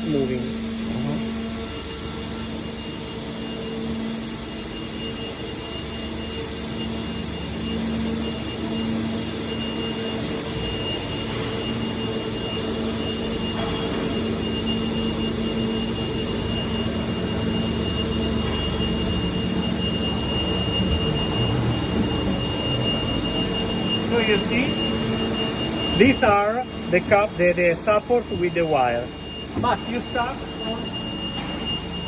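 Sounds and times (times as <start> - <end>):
high machine whine: 0.0 - 32.0
machinery hum: 0.0 - 32.0
noisy factory background: 0.0 - 32.0.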